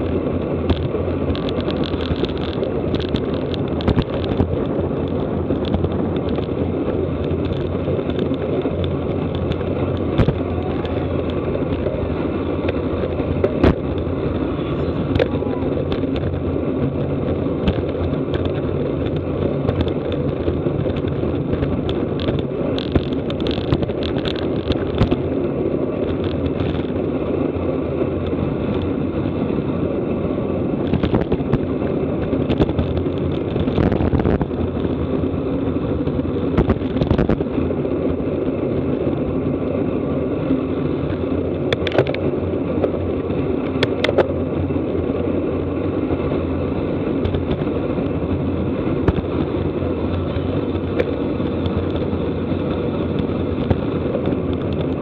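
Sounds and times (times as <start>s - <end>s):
bicycle clicks and rattles: 0.0s - 55.0s
wind and road noise: 0.0s - 55.0s.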